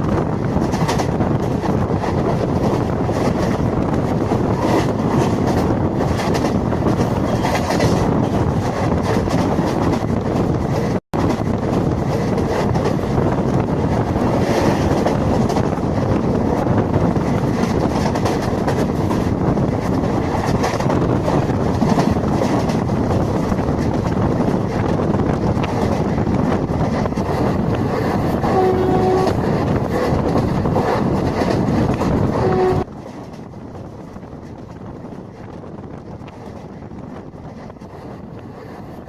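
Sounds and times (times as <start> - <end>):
wind noise: 0.0 - 39.0.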